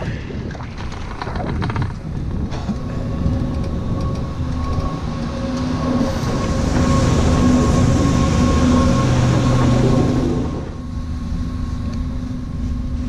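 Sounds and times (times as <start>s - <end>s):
chairlift machinery rumble and whine: 0.0s - 13.0s.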